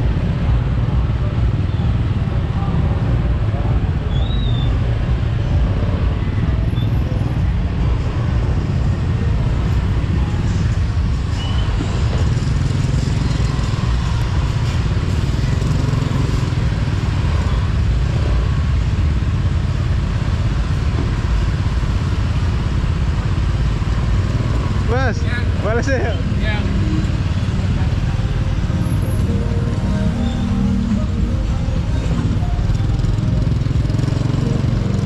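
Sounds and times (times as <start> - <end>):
motorcycle engine rumbling: 0.0 - 35.0
road noise: 0.0 - 35.0.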